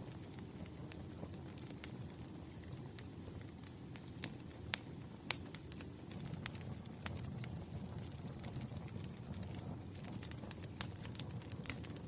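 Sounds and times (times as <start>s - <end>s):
low rumble of flames: 0.0s - 12.0s
wood crackling and popping: 0.0s - 12.0s.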